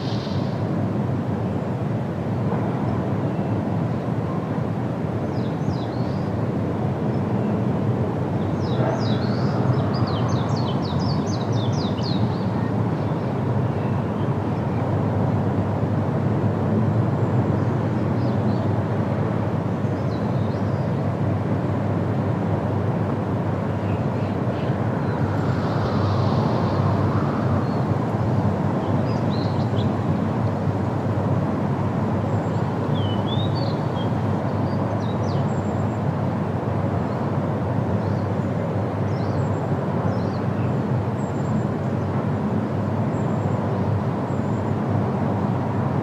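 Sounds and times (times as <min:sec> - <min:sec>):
wind rushing through trees: 0:00.0 - 0:46.0.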